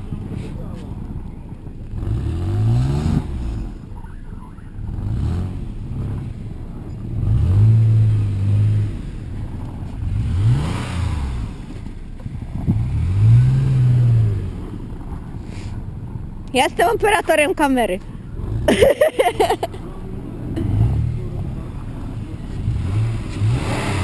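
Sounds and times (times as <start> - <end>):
car engine revving: 0.0 - 4.0, 4.8 - 15.8, 18.2 - 24.0.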